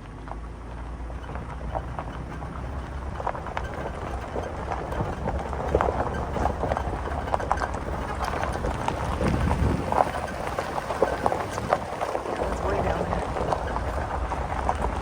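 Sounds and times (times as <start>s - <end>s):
footsteps on stony ground: 0.1s - 15.0s
steady low rumble: 0.4s - 15.0s.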